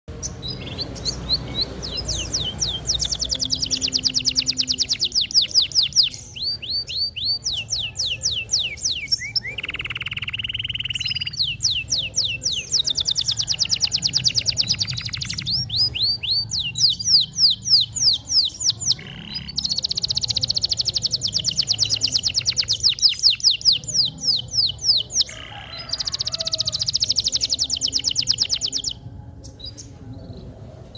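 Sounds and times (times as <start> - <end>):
canary singing trills: 0.1 - 30.5.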